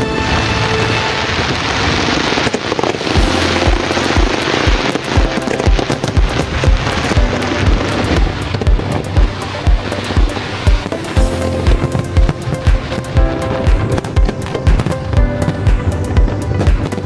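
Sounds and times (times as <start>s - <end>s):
fireworks bursting and crackling: 0.0s - 17.0s
music: 0.0s - 17.0s
steady low beat: 3.1s - 17.0s.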